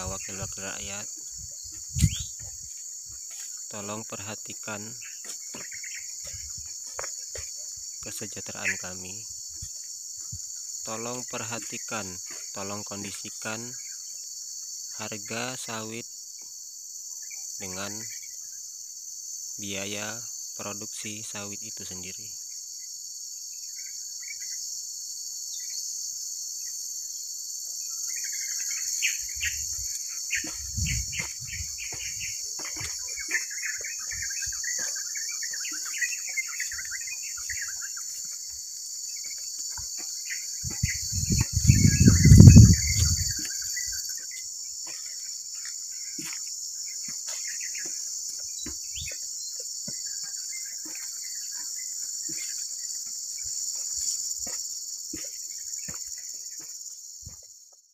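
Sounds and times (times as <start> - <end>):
insect chirps: 0.0 - 57.9
insect chorus: 0.0 - 57.9.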